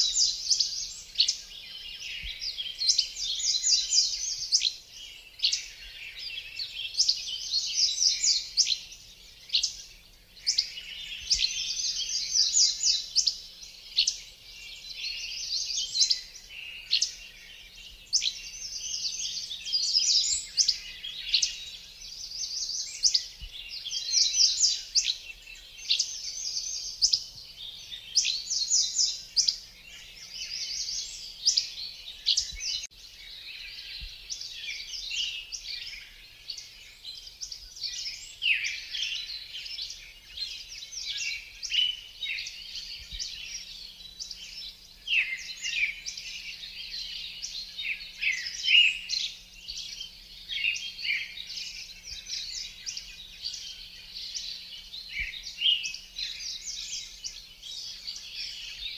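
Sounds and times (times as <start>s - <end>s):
songbirds chirping and singing: 0.0s - 58.9s.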